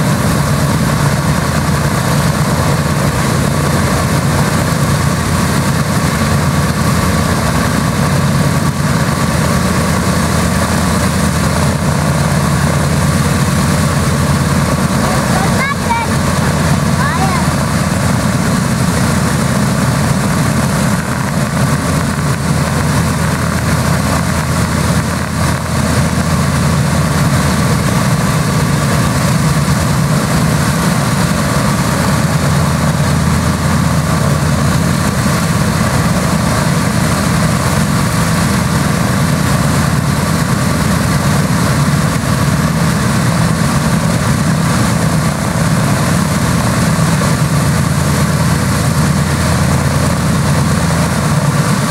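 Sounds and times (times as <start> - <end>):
radial aircraft engines idling: 0.0 - 51.9.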